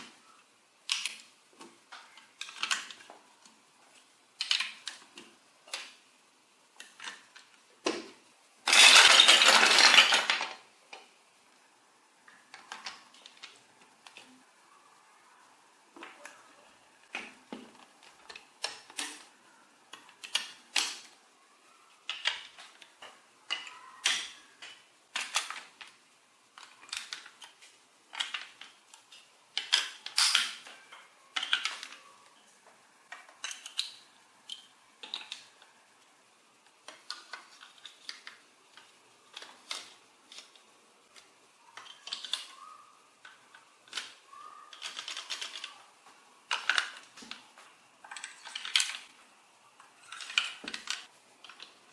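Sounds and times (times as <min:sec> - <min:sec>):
plastic toy pieces clacking: 0:00.8 - 0:03.6, 0:04.4 - 0:06.0, 0:06.7 - 0:11.1, 0:12.2 - 0:14.3, 0:17.1 - 0:21.2, 0:21.9 - 0:32.4, 0:33.1 - 0:35.8, 0:36.6 - 0:49.2, 0:49.8 - 0:51.9.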